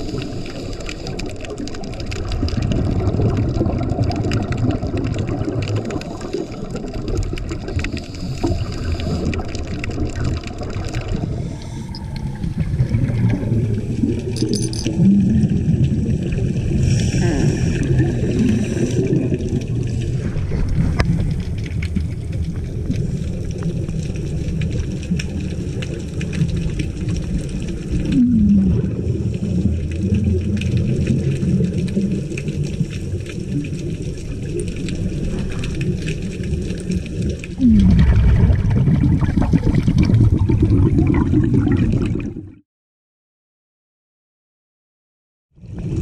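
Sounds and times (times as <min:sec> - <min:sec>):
underwater regulator bubbles: 0:00.0 - 0:42.6.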